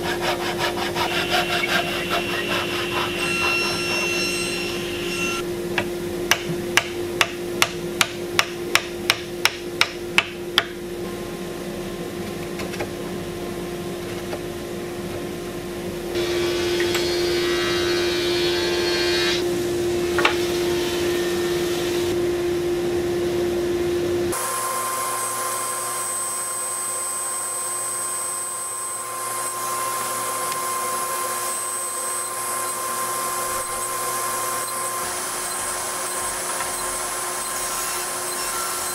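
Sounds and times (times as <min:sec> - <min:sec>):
shop machine noise: 0:00.0 - 0:13.2, 0:13.8 - 0:38.9.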